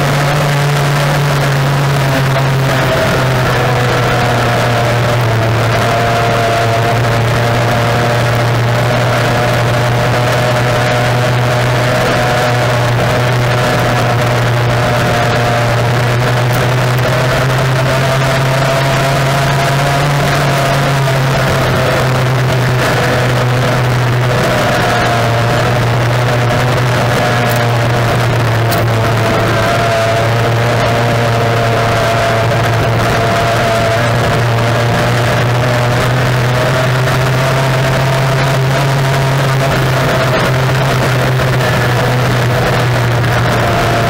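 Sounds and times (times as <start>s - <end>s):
outboard engine drone: 0.0s - 44.0s
rush of wind and water: 0.0s - 44.0s.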